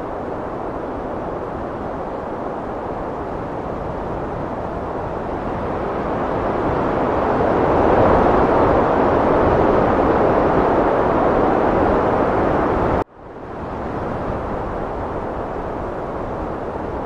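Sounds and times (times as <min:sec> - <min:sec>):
heavy wind blowing: 0:00.0 - 0:17.0.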